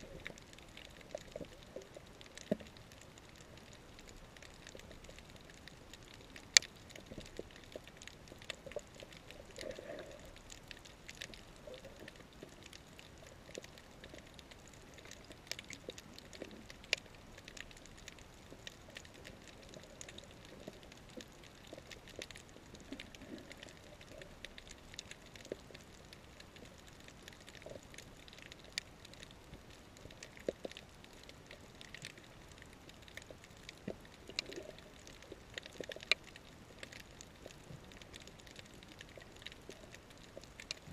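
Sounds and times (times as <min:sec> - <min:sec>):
faint steady hiss: 0:00.0 - 0:40.9
underwater clicks and crackles: 0:00.0 - 0:40.9.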